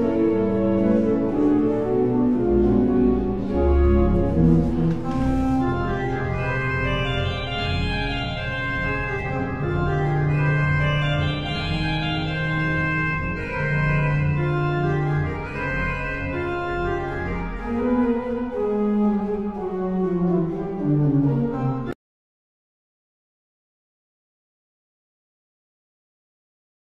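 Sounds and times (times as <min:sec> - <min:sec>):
church organ playing: 0:00.0 - 0:22.0.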